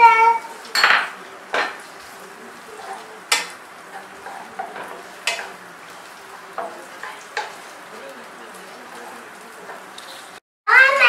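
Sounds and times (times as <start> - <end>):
onions sizzling in hot oil: 0.0 - 11.0
spatula scraping frying pan: 1.5 - 10.4.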